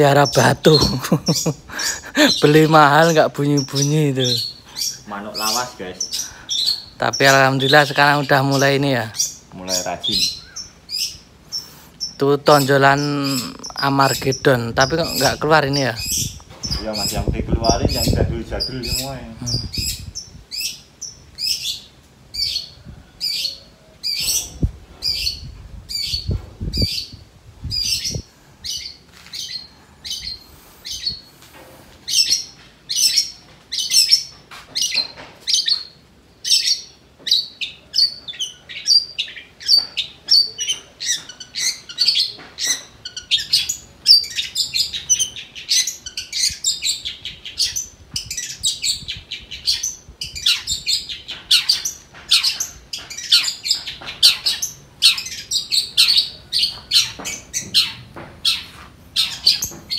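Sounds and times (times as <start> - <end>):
bird singing rapid chirps: 0.0 - 31.3, 32.0 - 59.9.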